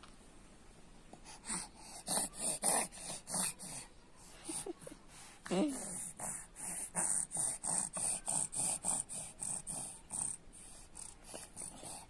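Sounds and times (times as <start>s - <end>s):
baby breathy huffs: 1.2s - 3.9s, 4.5s - 12.0s.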